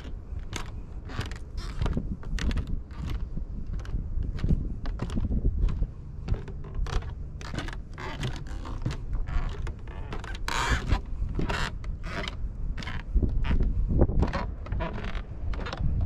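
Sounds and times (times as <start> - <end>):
footsteps on wooden boardwalk: 0.0 - 16.0
planks creaking: 0.0 - 16.0
steady low rumble: 0.0 - 16.0.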